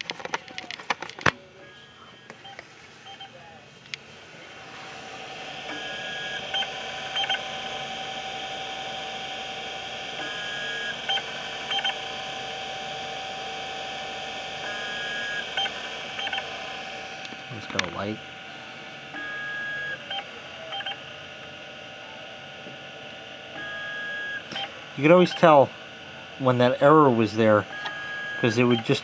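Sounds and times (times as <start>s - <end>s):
hard drive whine: 0.0s - 29.0s.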